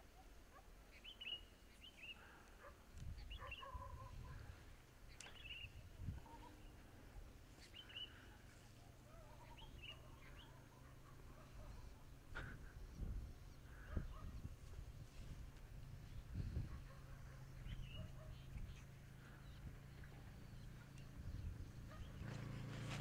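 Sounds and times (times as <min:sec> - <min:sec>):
faint small birds chirping: 0:00.1 - 0:22.4.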